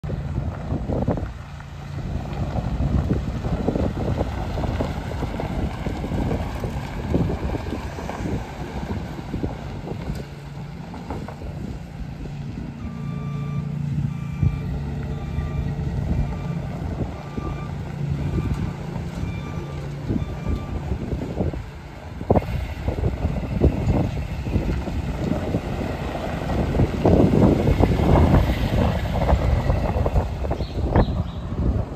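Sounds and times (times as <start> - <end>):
pickup engine running: 0.0 - 31.9
wind buffeting microphone: 0.0 - 31.9
tyres crunching on gravel: 0.1 - 31.9.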